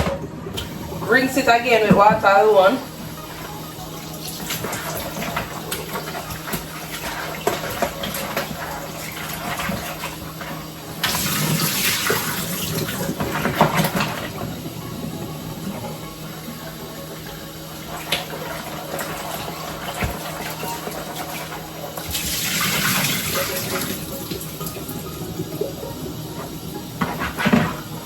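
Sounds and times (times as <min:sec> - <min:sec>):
water sloshing in a bowl: 0:01.2 - 0:28.0.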